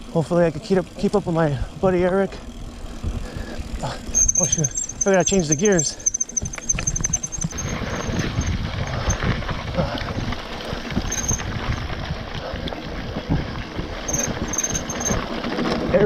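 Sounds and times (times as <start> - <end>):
bike rattling: 0.0 - 16.0.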